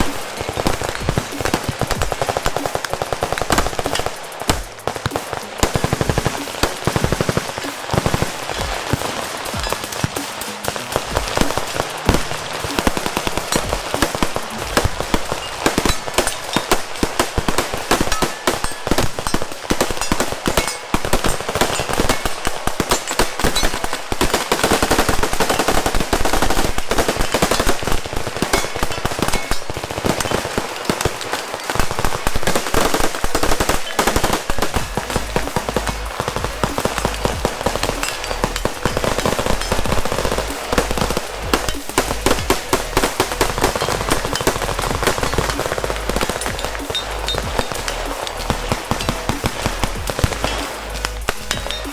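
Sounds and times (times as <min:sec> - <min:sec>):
massed gunfire: 0:00.0 - 0:51.9.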